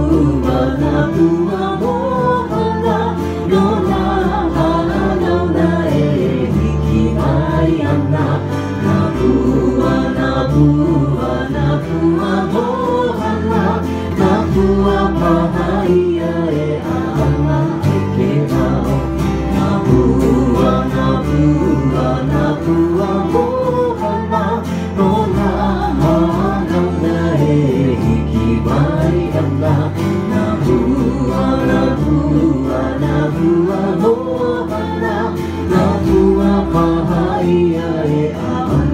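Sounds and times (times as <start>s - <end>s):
bass notes: 0.0s - 38.9s
person singing: 0.0s - 38.9s
strummed acoustic guitars and ukuleles: 0.0s - 38.9s.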